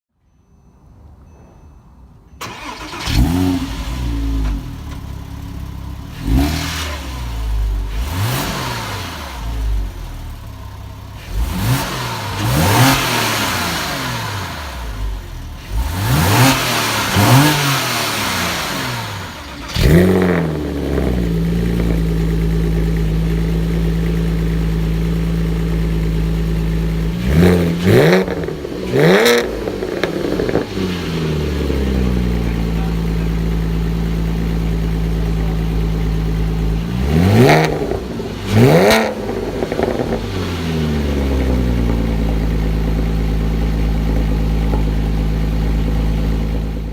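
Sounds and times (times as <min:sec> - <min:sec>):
car engine revving and idling: 0:02.4 - 0:46.9.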